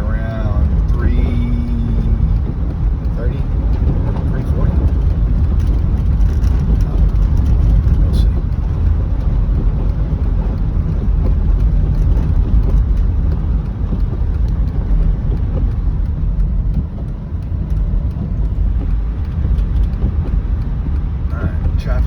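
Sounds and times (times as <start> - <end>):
car road noise inside cabin: 0.0 - 22.0
faint ticks: 0.1 - 22.0.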